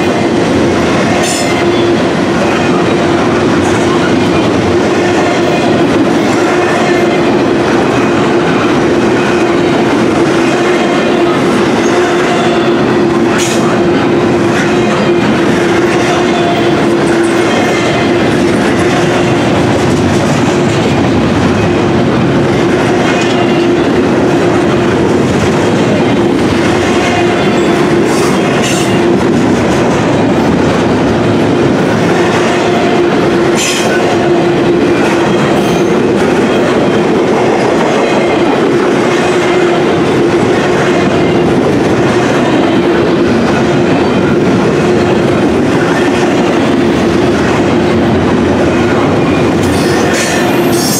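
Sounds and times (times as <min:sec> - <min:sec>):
train wheels rolling on rails: 0:00.0 - 0:50.9.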